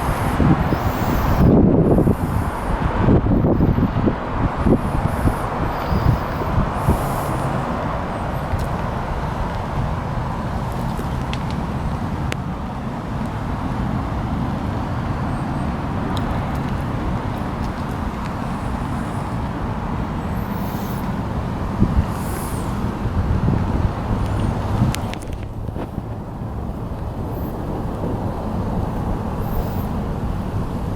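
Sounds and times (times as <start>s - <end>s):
vehicle engine rumbling: 0.0s - 30.9s.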